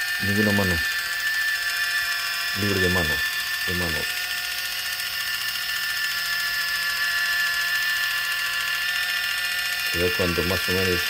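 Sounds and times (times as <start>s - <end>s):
electric can opener motor whine: 0.0s - 11.0s.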